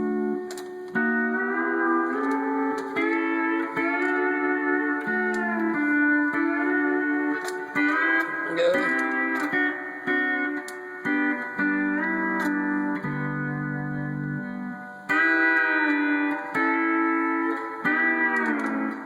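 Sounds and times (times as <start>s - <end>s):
pedal steel guitar chords: 0.0s - 19.0s.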